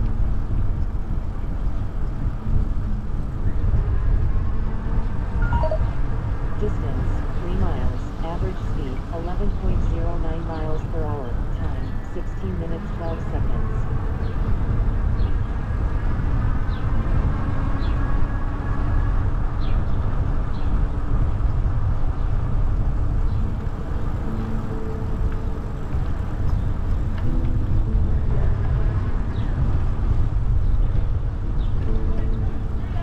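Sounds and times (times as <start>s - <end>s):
faint traffic or drivetrain tones: 0.0s - 33.0s
wind buffeting microphone: 0.0s - 33.0s.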